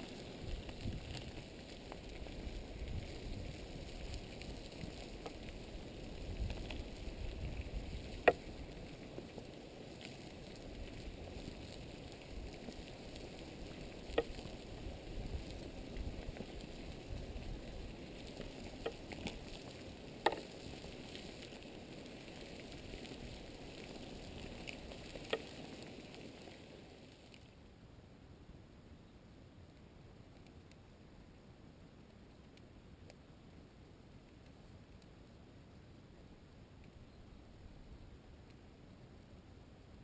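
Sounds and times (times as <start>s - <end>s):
lava sizzling crackle: 0.0s - 27.8s, 28.8s - 40.0s.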